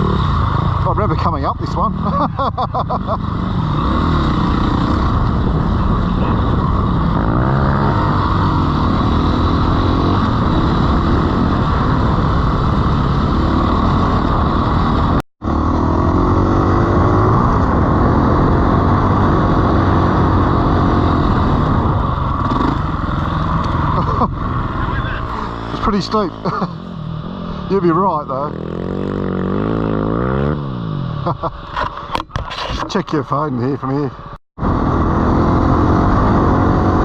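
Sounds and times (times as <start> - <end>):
dirt bike engine revving: 0.0 - 31.5, 34.6 - 37.0.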